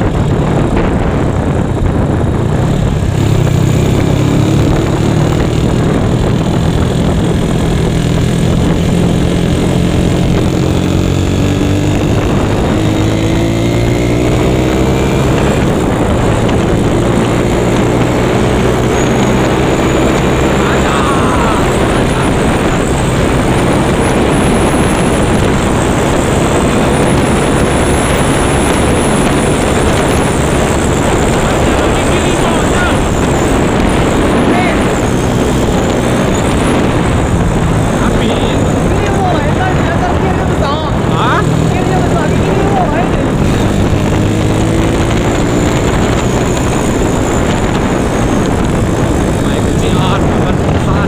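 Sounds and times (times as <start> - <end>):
motorcycle engine running: 0.0 - 51.0
wind rush on microphone: 0.0 - 51.0.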